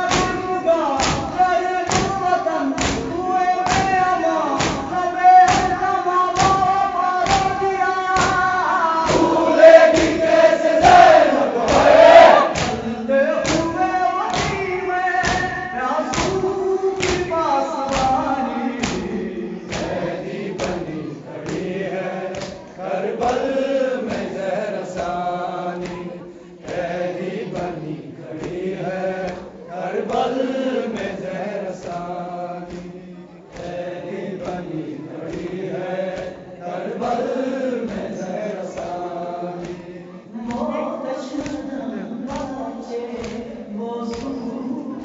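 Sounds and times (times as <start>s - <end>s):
chest-beating slaps: 0.0s - 27.8s, 28.4s - 36.4s, 37.0s - 40.7s, 43.2s - 43.5s, 44.1s - 44.4s
group of voices chanting: 0.0s - 45.0s.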